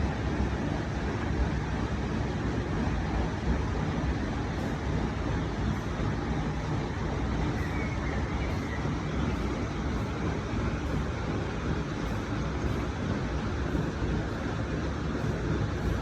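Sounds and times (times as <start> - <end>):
rushing water over weir: 0.0 - 16.0.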